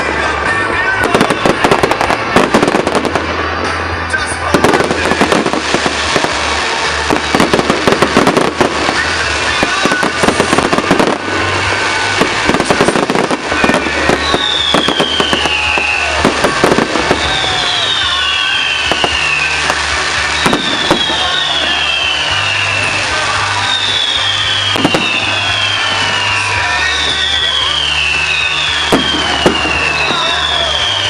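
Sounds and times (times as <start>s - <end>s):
fireworks cracking and banging: 0.0s - 31.0s
whistling fireworks: 0.0s - 31.0s.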